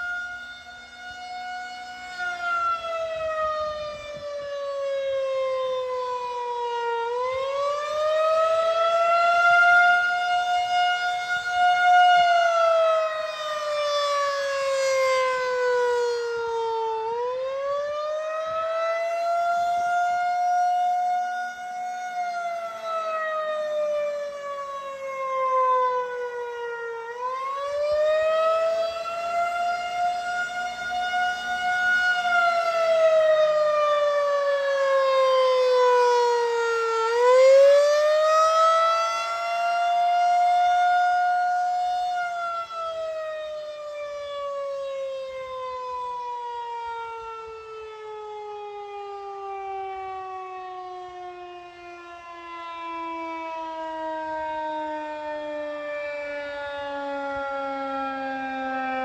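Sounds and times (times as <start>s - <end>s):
tornado siren wailing: 0.0s - 59.0s.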